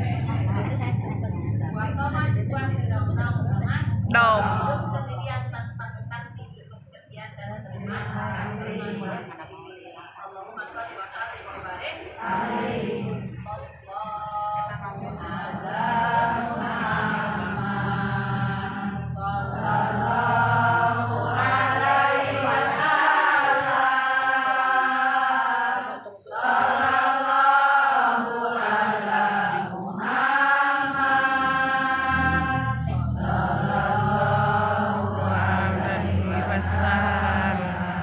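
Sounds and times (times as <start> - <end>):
voices singing chant together: 0.0 - 6.1, 7.2 - 9.5, 10.6 - 38.0.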